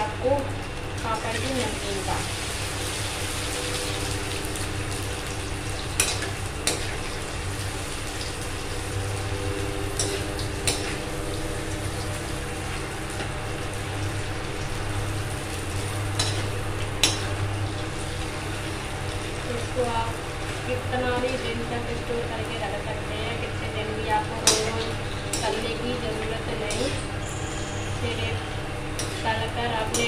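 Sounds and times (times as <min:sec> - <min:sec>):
frying in hot oil: 0:00.0 - 0:30.0.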